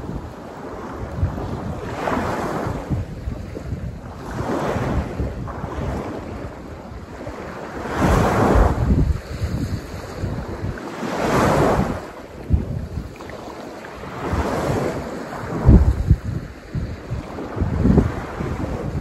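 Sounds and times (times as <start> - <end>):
sea waves washing: 0.0 - 19.0
wind buffeting microphone: 0.0 - 19.0.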